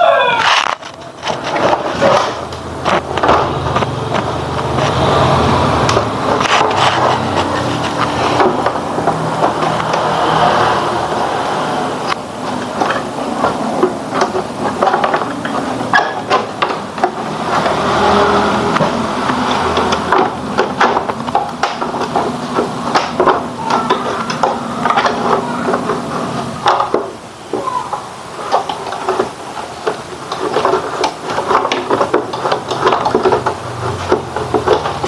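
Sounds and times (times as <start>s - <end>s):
steady background noise: 0.0s - 35.0s
hard plastic knocks and scrapes: 0.4s - 35.0s.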